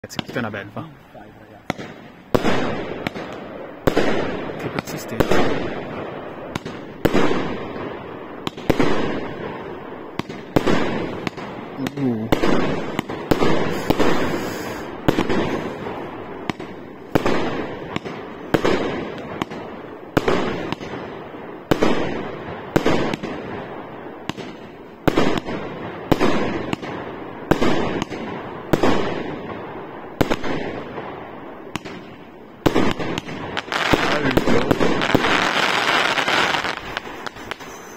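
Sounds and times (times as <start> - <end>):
fireworks bangs with rumble: 1.5 - 37.9.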